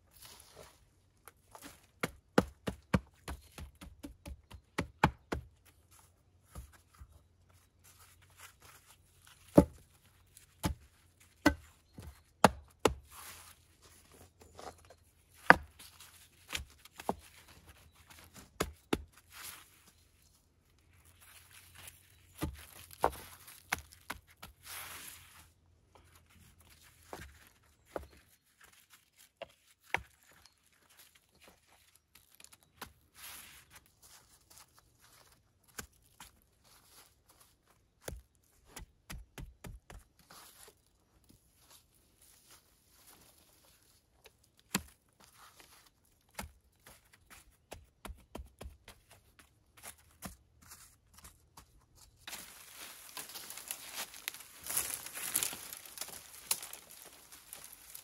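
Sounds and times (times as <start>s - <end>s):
rustling crumbling soil: 0.0s - 38.9s, 39.8s - 58.0s.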